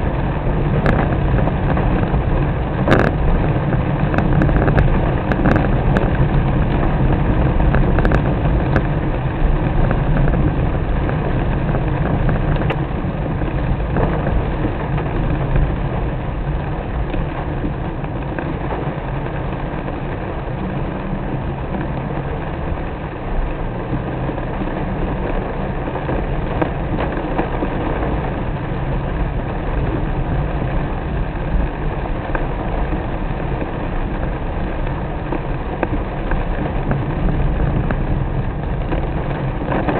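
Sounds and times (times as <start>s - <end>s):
car engine and road noise: 0.0s - 39.9s
rain hissing: 0.0s - 39.9s.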